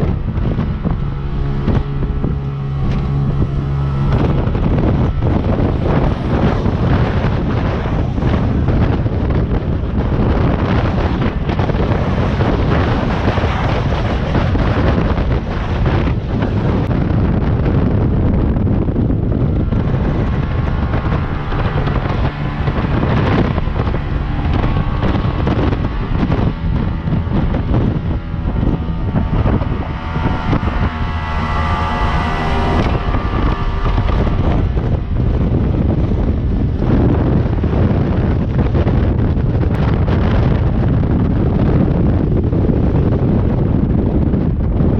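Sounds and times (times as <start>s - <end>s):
boat engine rumble: 0.0s - 44.9s
wind buffeting microphone: 0.0s - 44.9s.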